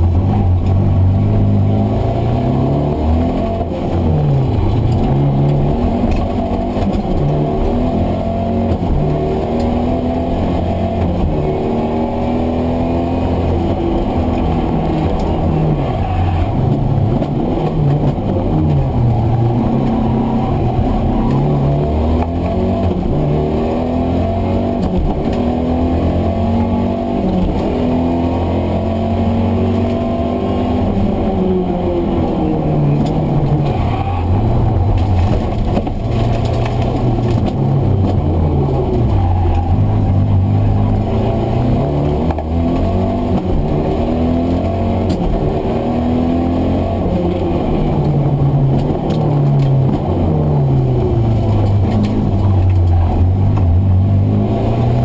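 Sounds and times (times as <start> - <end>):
car engine pulling hard: 0.0 - 55.0.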